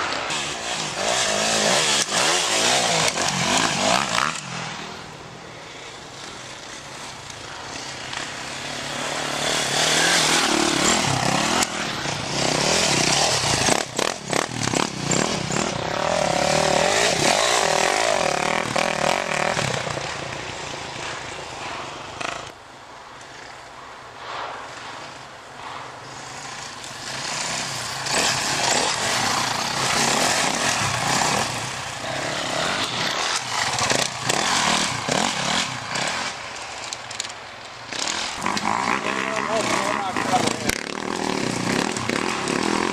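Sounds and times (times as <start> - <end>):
motorcycles revving past: 0.0 - 5.1, 5.8 - 22.6, 24.4 - 37.2, 37.9 - 42.9.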